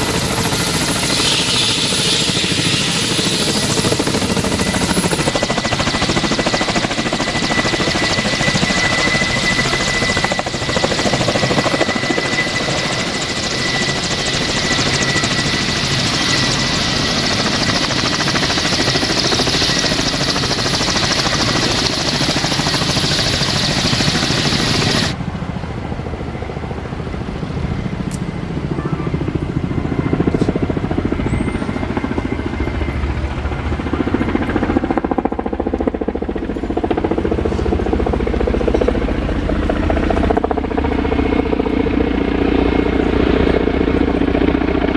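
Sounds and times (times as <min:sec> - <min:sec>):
helicopter engines and rotors: 0:00.0 - 0:44.9
high turbine whine: 0:00.0 - 0:44.9.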